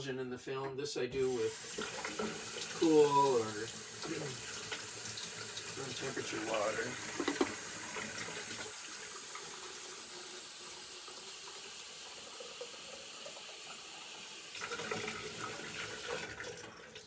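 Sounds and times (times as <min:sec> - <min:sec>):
tap water running into a tank: 0:01.2 - 0:17.0.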